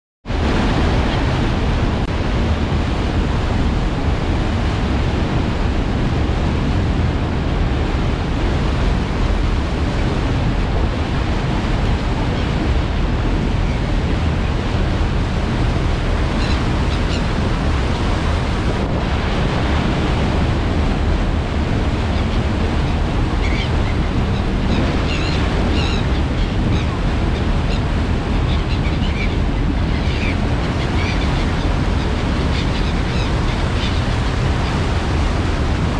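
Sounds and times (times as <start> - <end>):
water rushing along hull: 0.2 - 35.9
wind buffeting microphone: 0.2 - 35.9.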